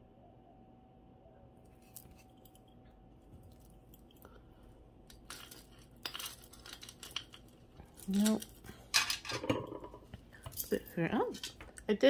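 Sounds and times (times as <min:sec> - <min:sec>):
jewelry clinking and rustling: 0:01.8 - 0:12.0.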